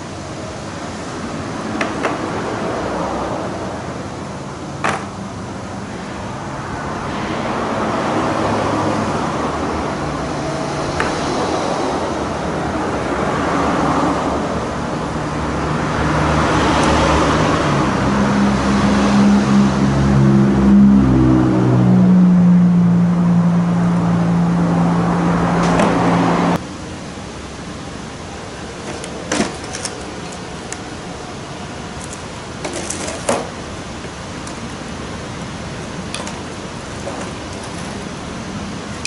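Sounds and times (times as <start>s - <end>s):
engine running: 0.0s - 39.0s.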